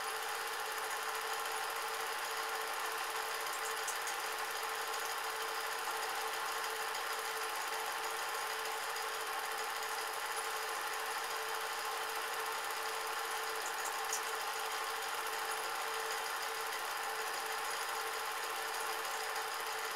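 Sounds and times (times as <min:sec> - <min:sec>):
film projector whirring: 0:00.0 - 0:19.9.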